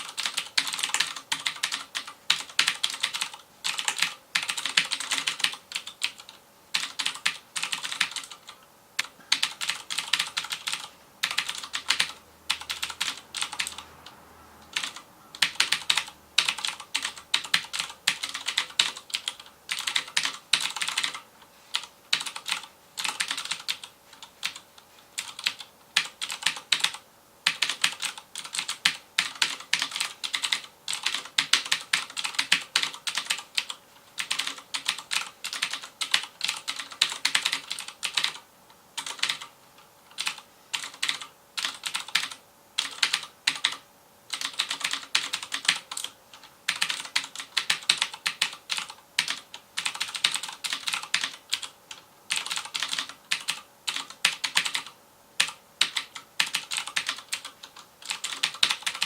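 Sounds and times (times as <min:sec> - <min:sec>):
mechanical keyboard typing: 0:00.0 - 0:13.9, 0:14.7 - 0:24.6, 0:25.2 - 0:38.4, 0:39.0 - 0:39.5, 0:40.1 - 0:59.0.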